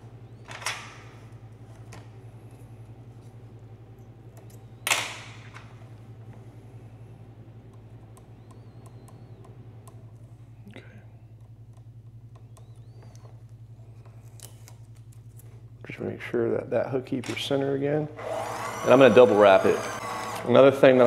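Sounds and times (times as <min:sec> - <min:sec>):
motor humming and pulsing: 0:00.0 - 0:14.7, 0:18.1 - 0:21.0.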